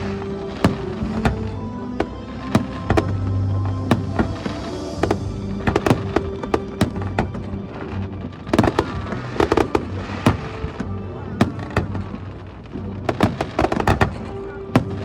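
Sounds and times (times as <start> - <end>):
background music: 0.0 - 15.0
fireworks bangs and crackles: 0.0 - 15.0.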